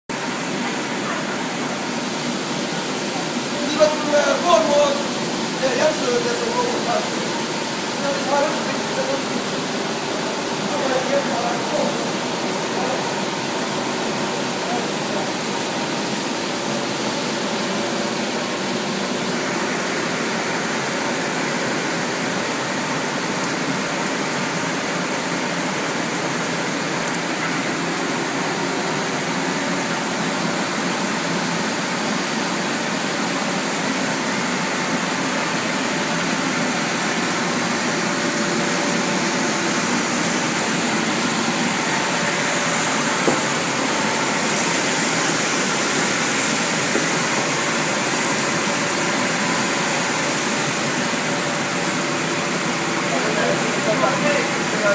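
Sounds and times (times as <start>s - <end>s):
printing press running: 0.1s - 54.9s.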